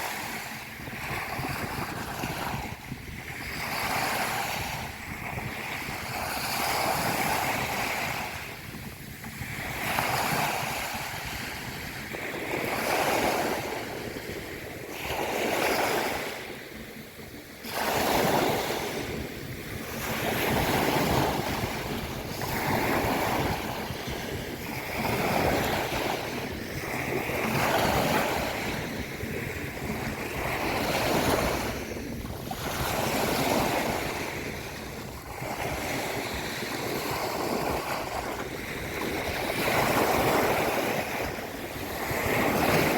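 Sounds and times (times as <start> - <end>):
sea waves breaking on beach: 0.0 - 42.9
wind buffeting microphone: 0.0 - 42.9.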